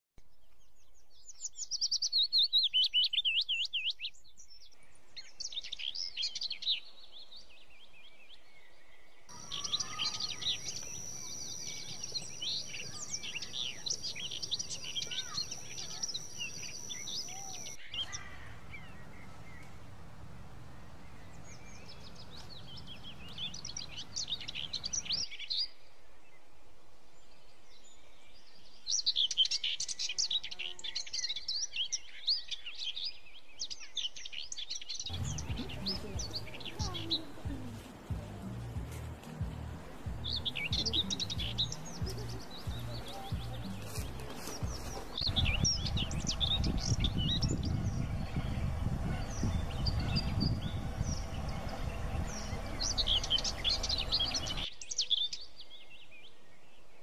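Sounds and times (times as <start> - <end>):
songbirds warbling and trilling: 0.2 - 57.0.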